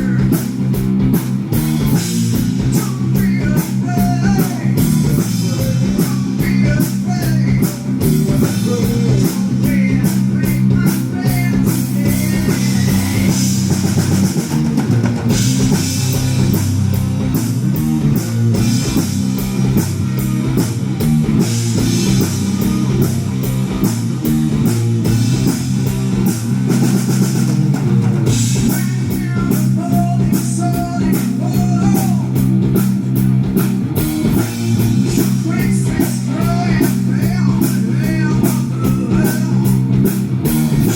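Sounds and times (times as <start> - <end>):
melodic guitar line: 0.0 - 40.9
rock band playing live: 0.0 - 40.9.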